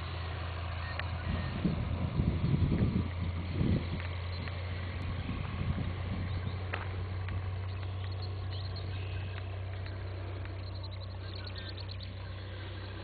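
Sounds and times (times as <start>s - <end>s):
light aircraft engine droning: 0.0s - 13.0s.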